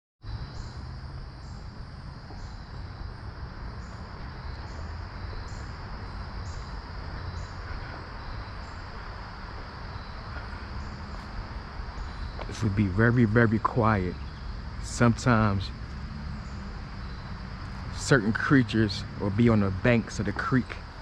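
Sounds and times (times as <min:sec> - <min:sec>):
crickets trilling: 0:00.2 - 0:21.0
high-pitched insect chirp: 0:00.3 - 0:21.0.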